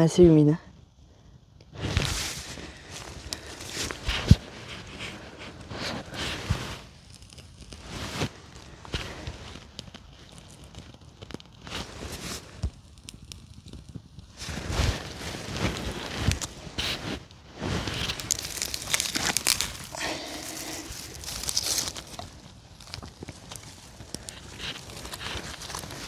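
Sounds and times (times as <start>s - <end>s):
campfire crackling: 0.8s - 26.0s
twigs rustling and cracking: 1.6s - 26.0s.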